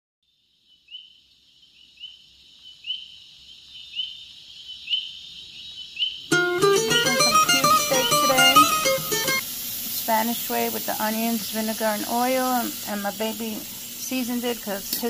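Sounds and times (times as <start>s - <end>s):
insect chirp: 0.2s - 15.0s
insects buzzing: 0.4s - 15.0s.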